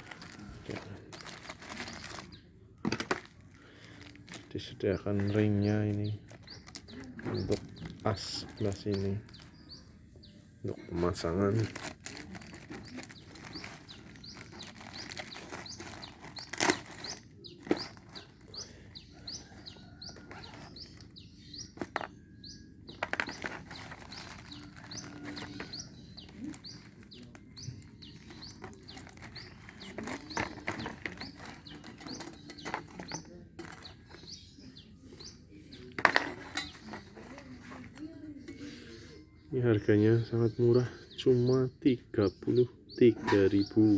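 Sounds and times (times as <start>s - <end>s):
small bird chirping: 0.0s - 43.9s.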